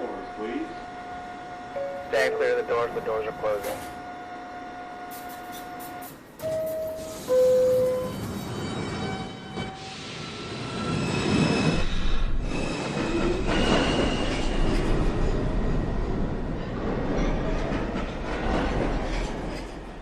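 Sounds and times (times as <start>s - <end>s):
subway train pulling out: 0.0s - 20.0s.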